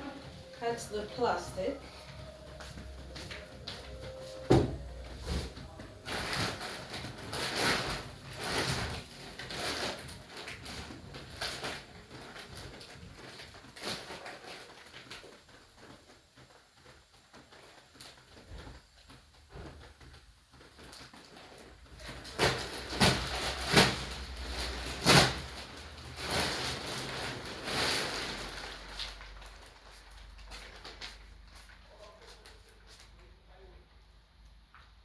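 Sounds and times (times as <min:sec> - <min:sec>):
plastic wrapping rustling: 0:00.0 - 0:35.0.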